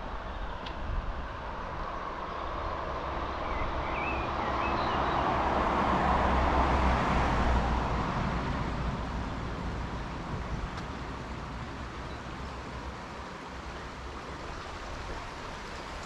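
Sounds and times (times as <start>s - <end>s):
car passing by: 1.3s - 16.0s.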